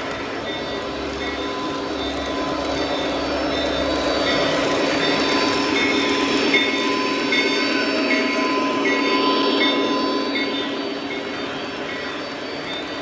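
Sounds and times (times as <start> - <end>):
model train wheels rumbling on rails: 0.0 - 13.0
motor whine: 0.0 - 13.0.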